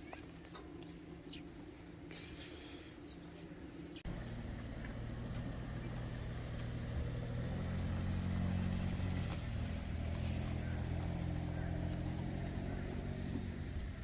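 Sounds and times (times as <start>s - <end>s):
vehicle engine humming: 1.0s - 14.0s.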